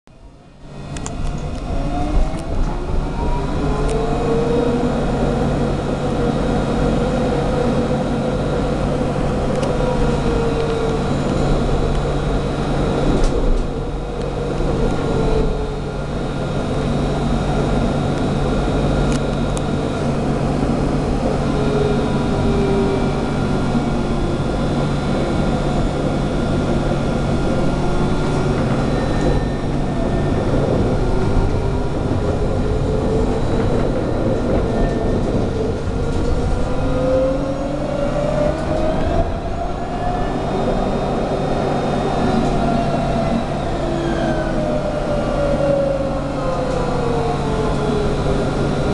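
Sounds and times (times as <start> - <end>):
tram rumble and hum: 0.1 - 48.9.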